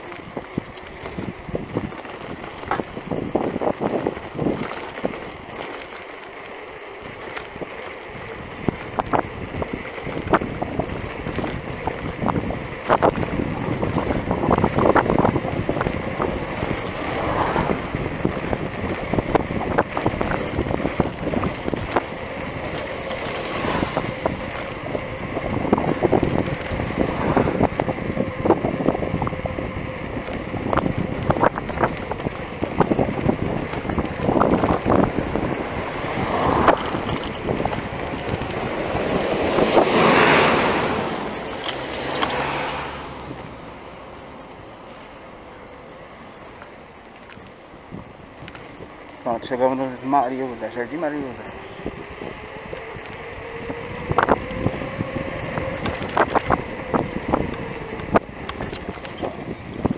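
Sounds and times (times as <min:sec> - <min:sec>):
bicycle clicks and rattles: 0:00.0 - 0:59.9
wind buffeting microphone: 0:00.0 - 0:59.9.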